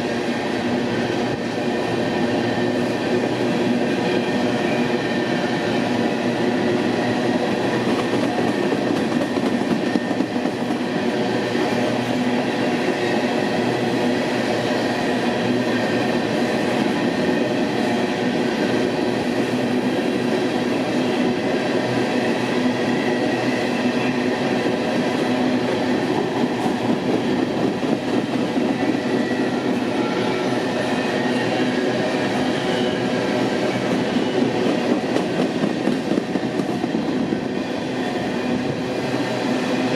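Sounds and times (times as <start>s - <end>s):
train wheels rumbling and rattling: 0.0s - 39.9s.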